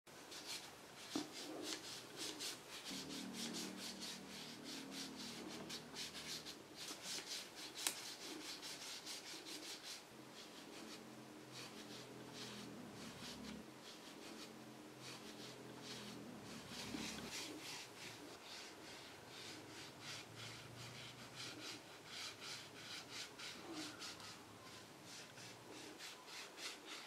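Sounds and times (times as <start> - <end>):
paper rubbing on paper: 0.2 - 27.0.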